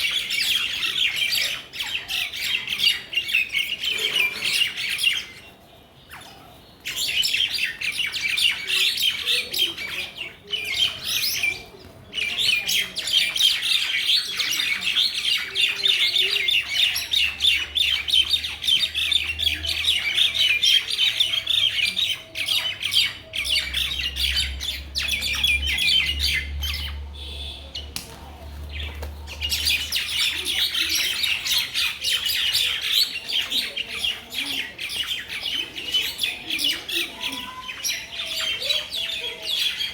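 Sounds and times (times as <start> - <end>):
mynas chattering and squawking: 0.0 - 39.9.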